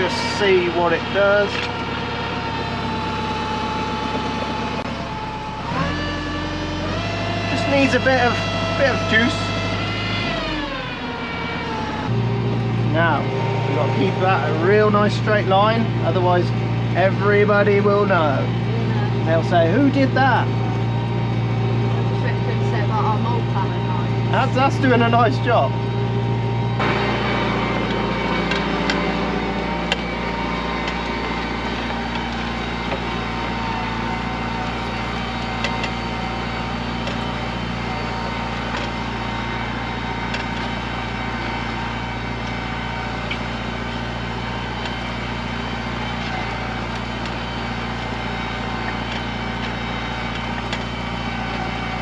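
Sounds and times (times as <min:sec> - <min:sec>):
tractor engine under load: 0:00.0 - 0:52.0.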